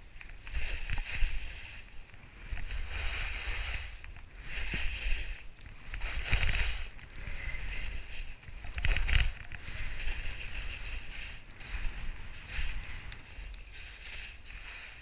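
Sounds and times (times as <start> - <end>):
skis hissing through snow: 0.0 - 15.0
wind rumbling on microphone: 0.0 - 15.0.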